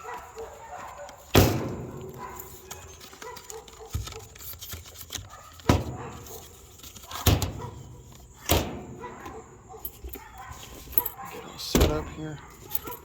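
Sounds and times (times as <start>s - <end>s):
dog barking: 0.0s - 4.4s, 5.2s - 13.0s.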